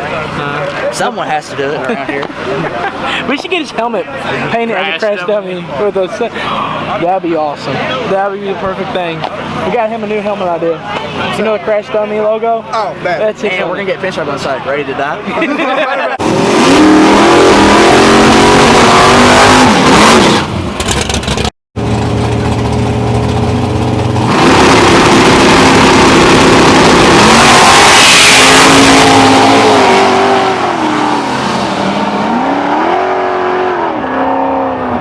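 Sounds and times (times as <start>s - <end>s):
race car engines revving: 0.0s - 35.0s.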